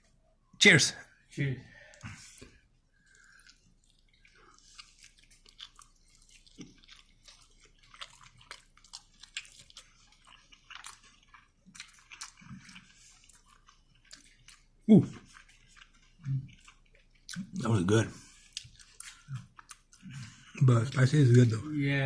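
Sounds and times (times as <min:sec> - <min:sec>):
chewing with wet clicks and crunches: 0:01.8 - 0:21.6.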